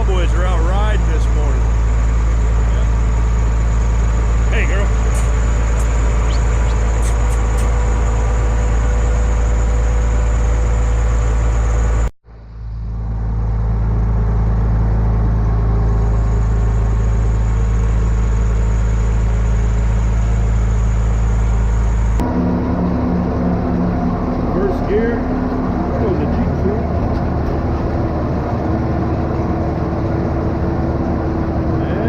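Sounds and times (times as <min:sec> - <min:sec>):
locomotive engine rumbling: 0:00.0 - 0:32.0.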